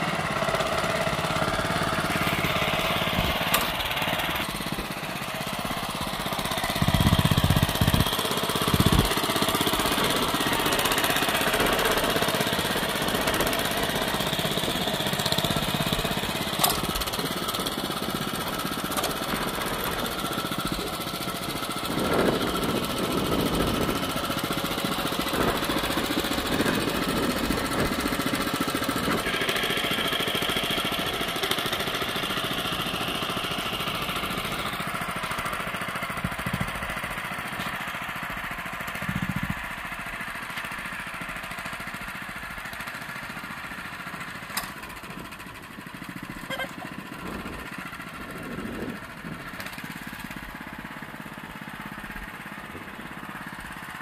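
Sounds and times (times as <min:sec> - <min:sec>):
low engine bursts: 0:00.0 - 0:54.0
tiller engine running: 0:00.0 - 0:54.0.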